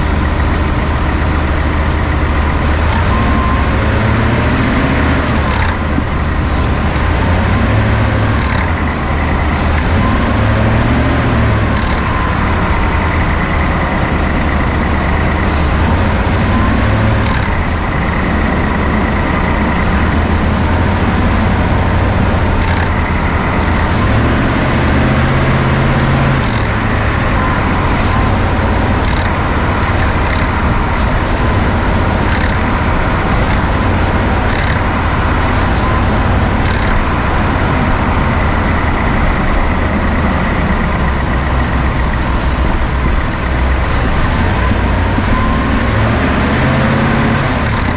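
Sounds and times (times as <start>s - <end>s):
sharp engine clicks: 0.0s - 47.9s
truck engine running: 0.0s - 47.9s.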